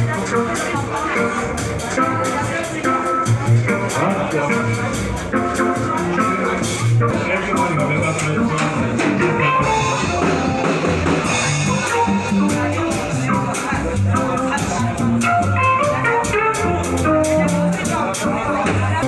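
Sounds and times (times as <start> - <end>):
upbeat church band music: 0.0 - 19.0.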